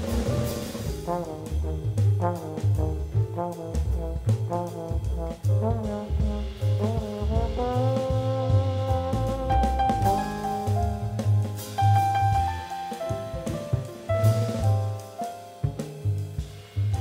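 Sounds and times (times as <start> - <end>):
drum kit: 0.0 - 17.0
jazz trombone: 0.0 - 17.0
upright bass: 0.0 - 17.0.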